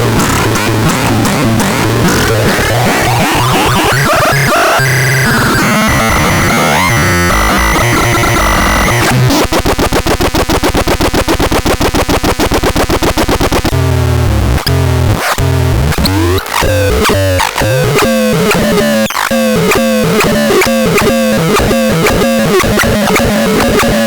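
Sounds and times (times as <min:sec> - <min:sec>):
harsh electronic noise: 0:00.0 - 0:24.0.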